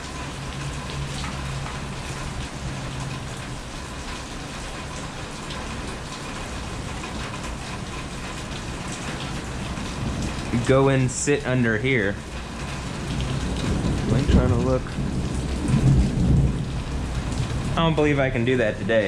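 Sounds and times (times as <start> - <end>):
rain falling: 0.0 - 19.0
raindrops ticking on surface: 0.0 - 19.0.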